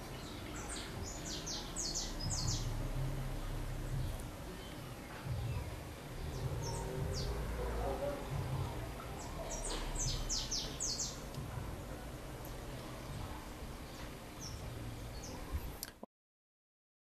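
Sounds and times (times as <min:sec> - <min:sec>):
small songbird chirping: 0:00.0 - 0:11.4, 0:12.4 - 0:15.7.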